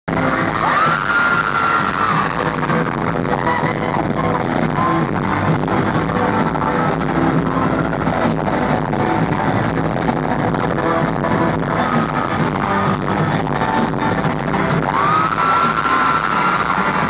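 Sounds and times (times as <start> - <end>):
loud electronic music: 0.0 - 17.0.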